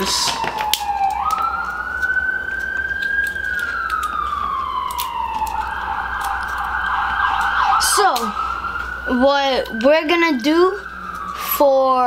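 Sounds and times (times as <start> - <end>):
siren wailing: 0.0 - 12.0.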